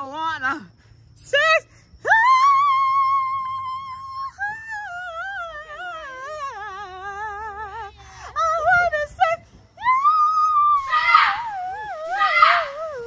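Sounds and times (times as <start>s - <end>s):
woman singing high notes: 1.2s - 13.0s.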